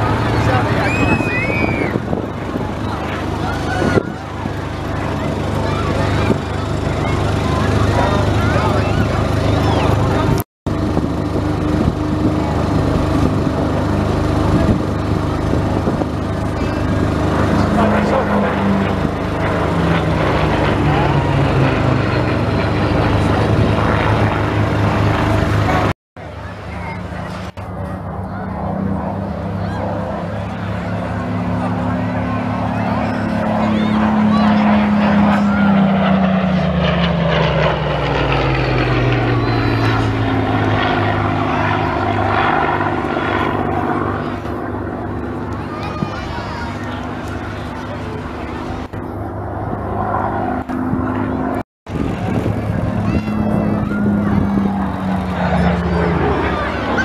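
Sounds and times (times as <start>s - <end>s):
propeller plane engine flying overhead: 0.0s - 57.0s.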